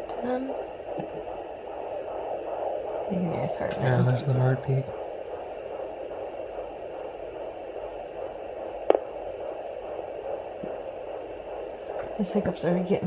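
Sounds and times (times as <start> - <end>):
doppler static hiss: 0.0 - 13.0.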